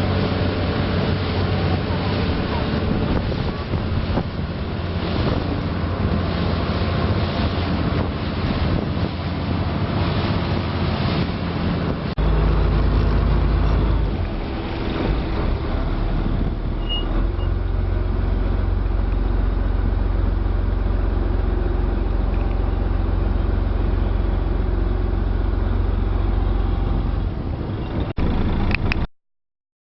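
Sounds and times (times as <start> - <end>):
ferry engine rumbling: 0.0 - 29.1
water noise: 0.0 - 29.1
wind: 0.0 - 29.1.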